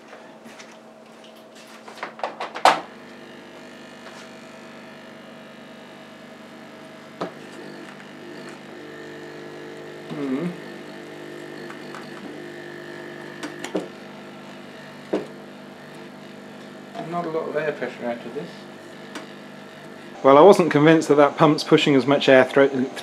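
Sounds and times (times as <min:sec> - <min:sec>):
air pump humming: 0:02.6 - 0:23.0.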